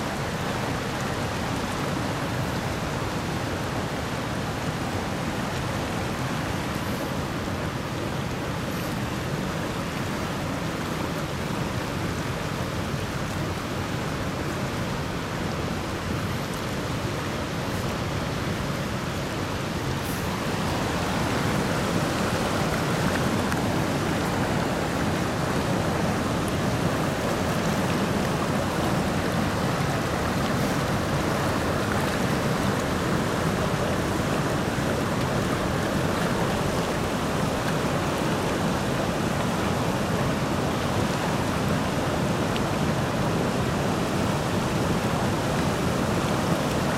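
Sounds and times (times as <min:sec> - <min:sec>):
river water rushing over rapids: 0:00.0 - 0:46.9.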